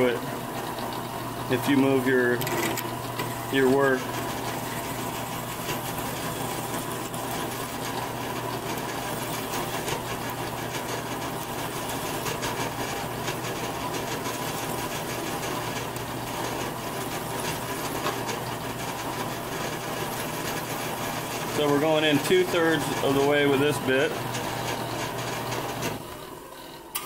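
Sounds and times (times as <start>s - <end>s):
drill press motor hum: 0.0s - 27.0s
drill cutting steel: 2.6s - 25.5s.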